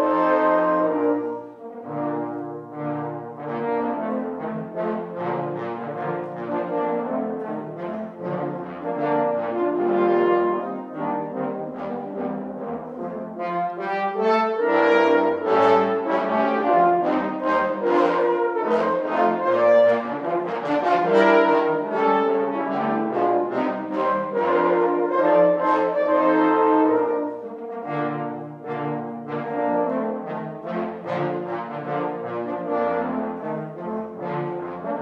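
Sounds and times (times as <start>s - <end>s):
french horns playing in harmony: 0.0s - 35.0s.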